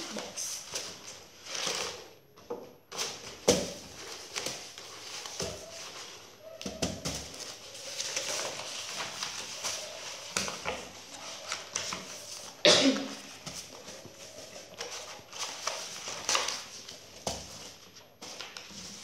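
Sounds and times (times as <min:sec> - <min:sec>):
stiff paper rustling: 0:02.9 - 0:19.0.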